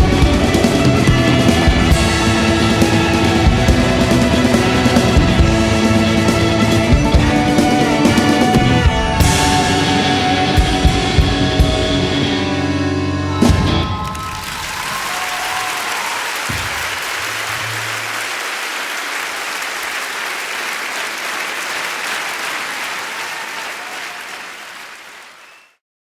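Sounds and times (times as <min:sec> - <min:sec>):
audience applauding: 0:00.0 - 0:08.6, 0:13.3 - 0:25.8.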